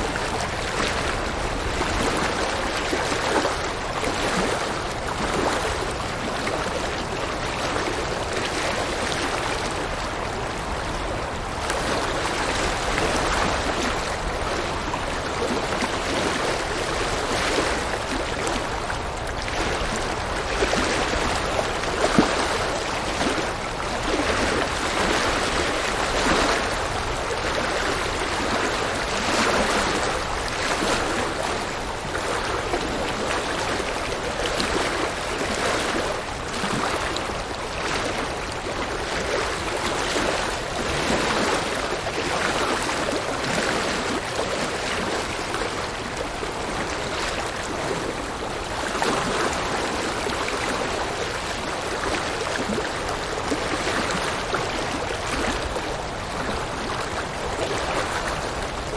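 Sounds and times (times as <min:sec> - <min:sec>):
river water rushing and babbling: 0:00.0 - 0:58.9.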